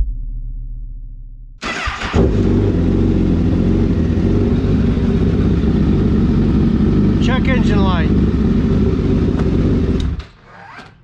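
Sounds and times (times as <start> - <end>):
motorcycle engine starting and idling: 1.6 - 10.8.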